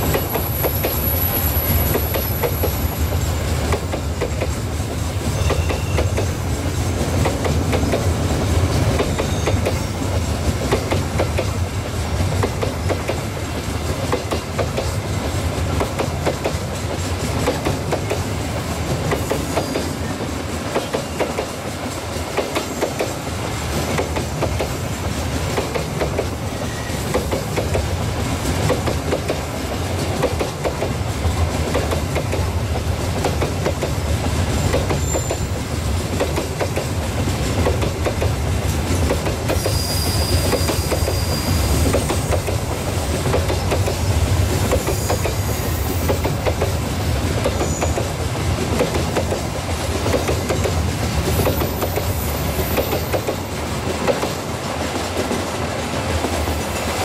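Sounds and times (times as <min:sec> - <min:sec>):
low rumble of freight train: 0:00.0 - 0:57.0
train wheels clacking over rail joints: 0:00.0 - 0:57.0.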